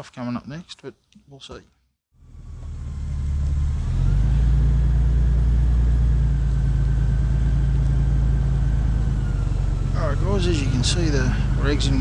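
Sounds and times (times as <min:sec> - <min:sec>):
car engine low rumble: 0:02.2 - 0:12.0.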